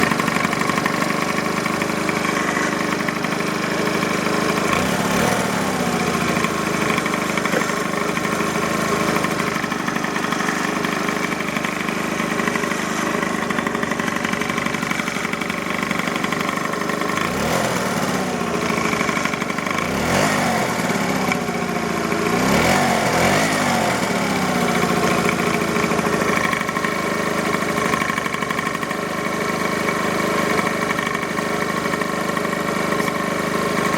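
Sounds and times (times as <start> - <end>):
engine knocking: 0.0 - 33.9
scooter engine idling and revving: 0.0 - 33.9.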